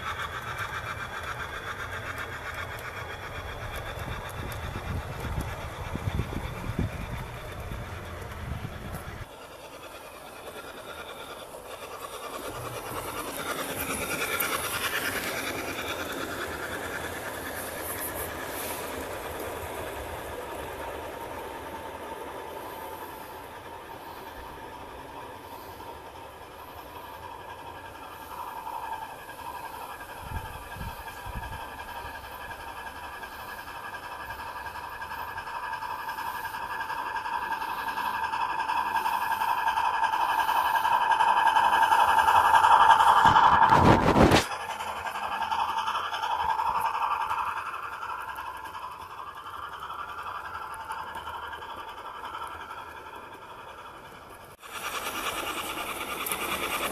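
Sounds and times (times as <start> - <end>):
model train wheels clicking: 0.0 - 56.9.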